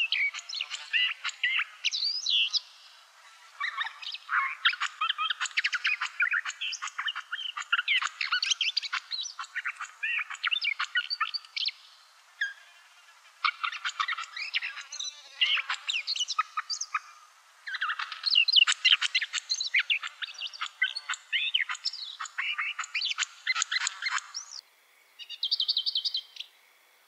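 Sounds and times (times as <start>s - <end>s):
warbler singing: 0.0s - 12.6s, 13.4s - 24.6s, 25.2s - 26.5s.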